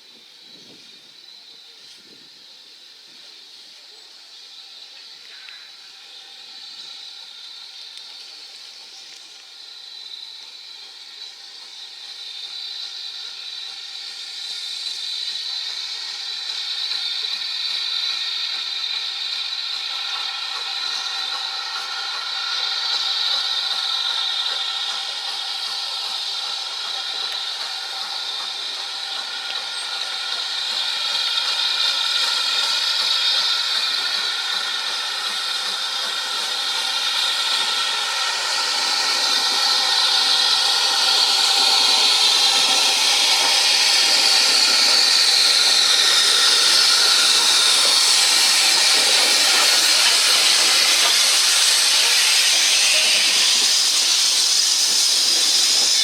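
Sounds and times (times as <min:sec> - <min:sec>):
steam hissing from locomotive: 0:00.0 - 0:56.0.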